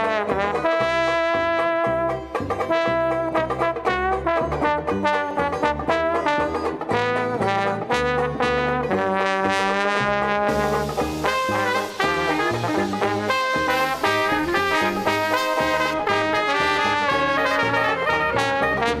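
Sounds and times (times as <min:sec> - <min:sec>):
jazz music led by brass: 0:00.0 - 0:19.0.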